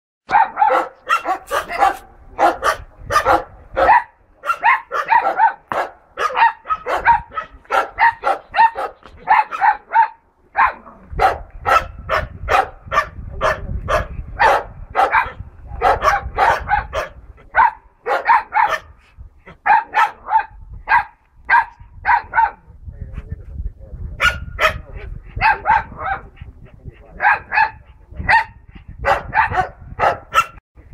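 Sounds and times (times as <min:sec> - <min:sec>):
dogs barking rapidly: 0:00.2 - 0:22.6, 0:24.2 - 0:30.6.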